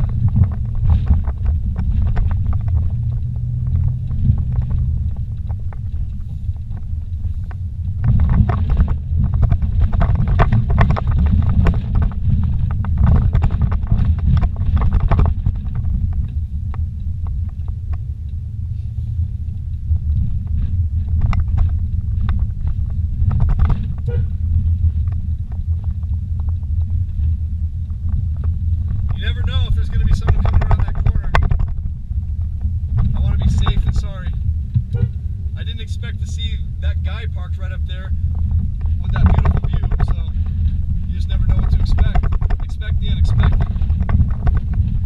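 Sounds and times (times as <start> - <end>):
knocking and rattling over bumps: 0.0 - 18.5, 19.3 - 45.0
engine and tyres rumbling: 0.0 - 45.0.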